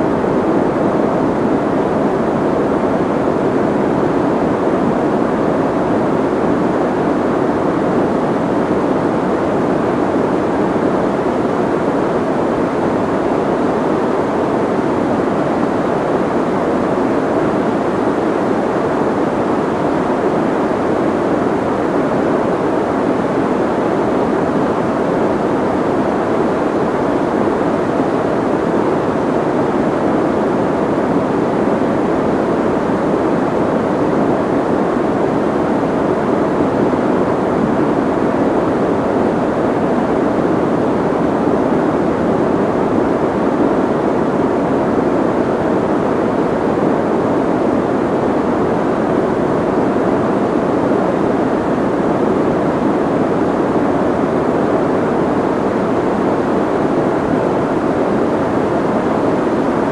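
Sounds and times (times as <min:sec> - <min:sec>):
muffled white noise hiss: 0:00.0 - 0:59.9.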